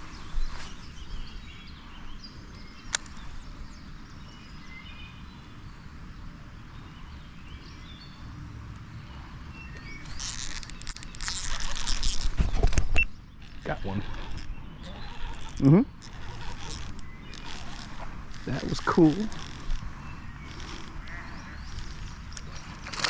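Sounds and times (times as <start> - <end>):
outdoor background noise: 0.0 - 23.0
small birds chirping: 0.0 - 23.0.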